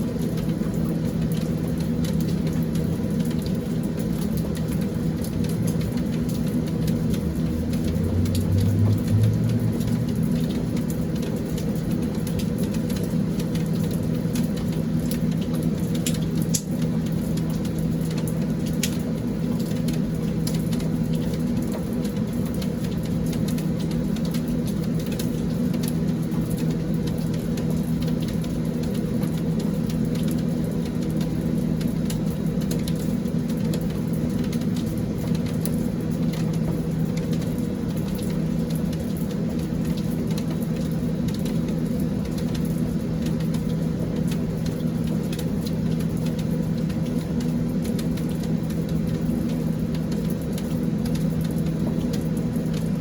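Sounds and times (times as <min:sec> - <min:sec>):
drips ticking: 0:00.0 - 0:53.0
low mechanical hum: 0:00.0 - 0:53.0
rain falling: 0:00.0 - 0:53.0.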